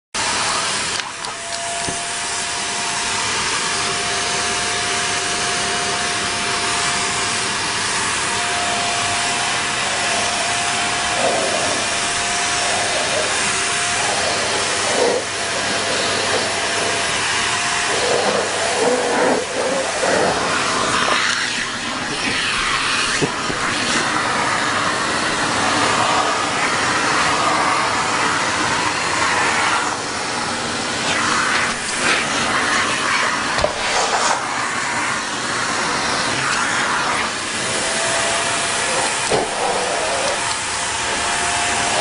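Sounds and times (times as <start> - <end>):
vacuum cleaner running: 0.2 - 42.0.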